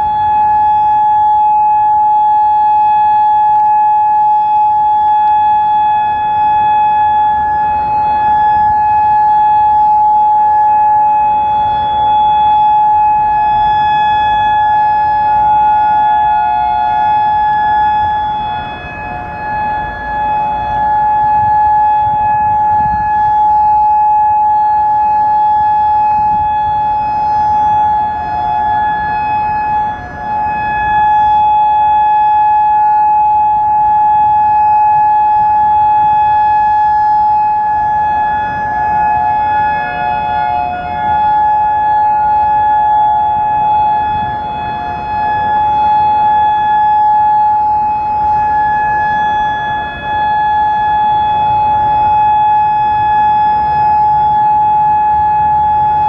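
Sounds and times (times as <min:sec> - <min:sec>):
electronic warning siren steady tone: 0:00.0 - 0:56.0.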